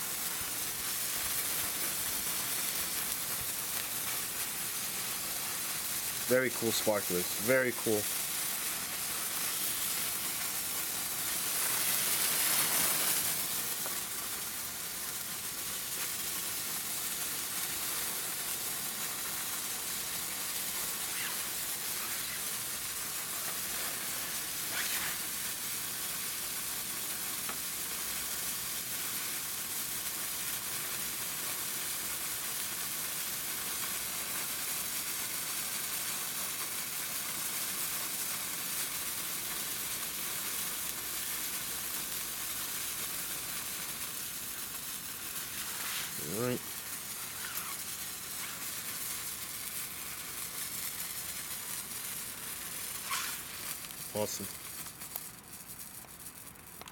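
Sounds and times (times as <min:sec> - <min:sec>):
sparklers hissing: 0:00.0 - 0:56.9
sparks crackling: 0:00.0 - 0:56.9.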